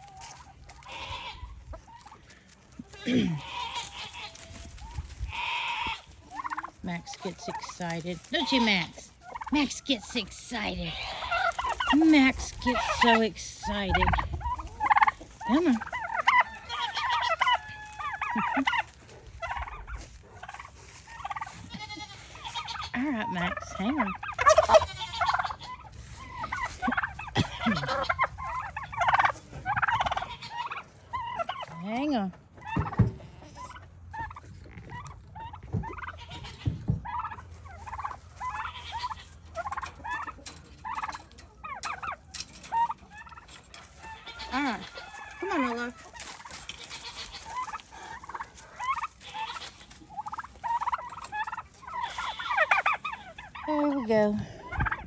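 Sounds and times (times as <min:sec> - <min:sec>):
poultry squawking and clucking: 0:00.0 - 0:55.0
turkeys gobbling: 0:00.0 - 0:55.0.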